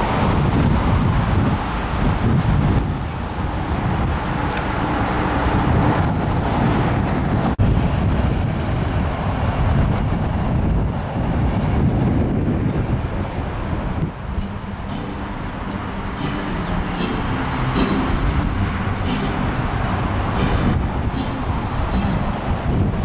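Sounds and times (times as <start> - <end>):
car engines running: 0.0 - 23.0
wind buffeting microphone: 0.0 - 23.0.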